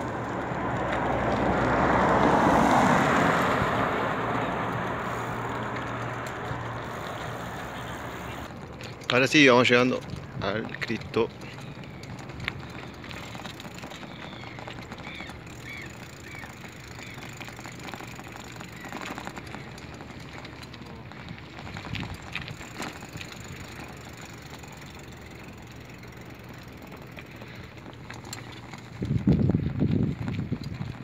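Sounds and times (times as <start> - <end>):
outdoor wind noise: 0.0 - 31.0
faint clicks and rattles: 4.4 - 31.0.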